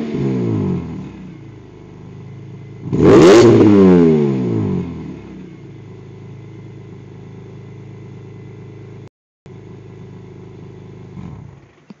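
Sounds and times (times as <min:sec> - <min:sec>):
car engine idling: 0:00.8 - 0:03.5, 0:04.8 - 0:12.0.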